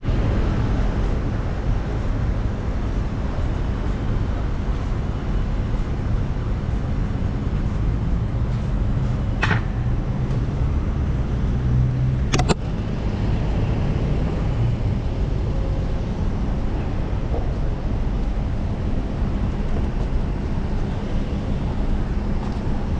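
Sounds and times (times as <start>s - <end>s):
low road rumble: 0.0s - 22.9s.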